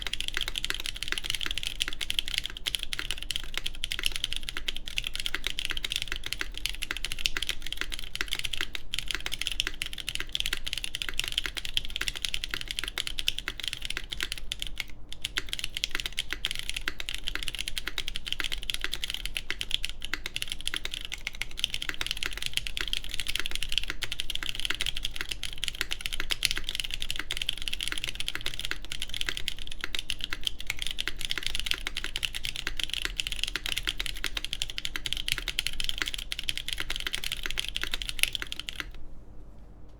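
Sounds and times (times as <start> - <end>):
fast typing on mechanical keyboard: 0.0 - 39.0.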